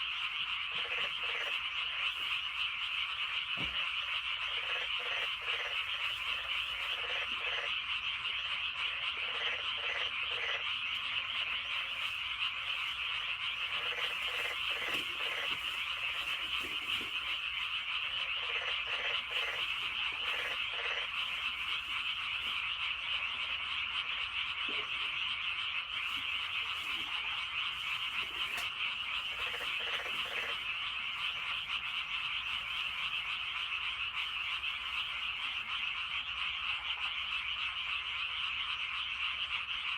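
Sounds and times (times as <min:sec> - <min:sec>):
frogs calling: 0:00.0 - 0:39.9
low rapid croaks: 0:00.0 - 0:39.9.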